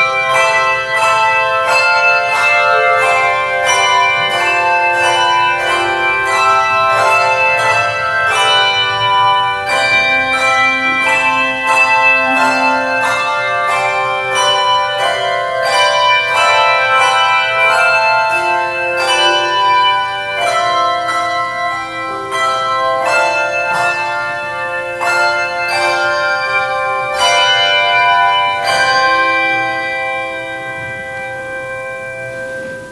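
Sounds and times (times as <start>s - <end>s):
handbell chords ringing: 0.0s - 29.8s.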